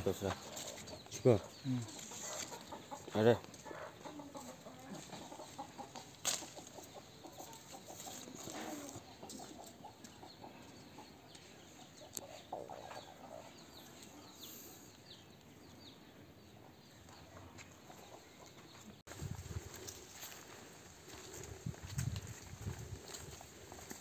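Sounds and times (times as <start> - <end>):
chickens clucking: 0.0 - 14.9, 16.5 - 24.0.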